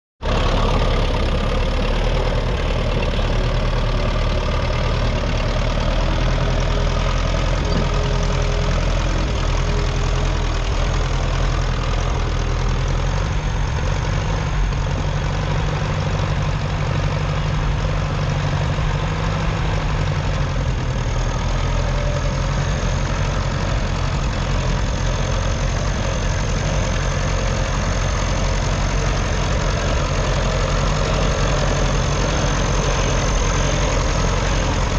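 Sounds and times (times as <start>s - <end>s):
tractor engine running: 0.2s - 34.9s.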